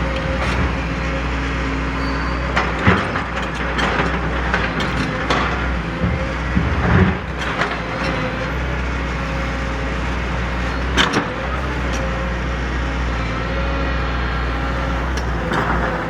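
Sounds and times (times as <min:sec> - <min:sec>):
heavy machinery engine running: 0:00.0 - 0:16.0
machinery knocks and clanks: 0:00.0 - 0:16.0.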